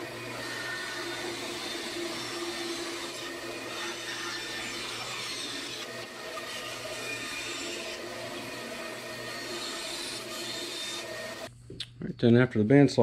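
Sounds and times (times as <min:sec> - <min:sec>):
bandsaw cutting wood: 0:00.0 - 0:11.5.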